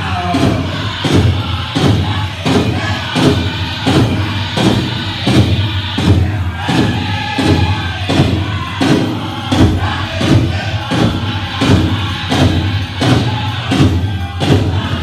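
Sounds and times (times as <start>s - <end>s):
drum group singing: 0.0s - 15.0s
steady big drum beat: 0.0s - 15.0s.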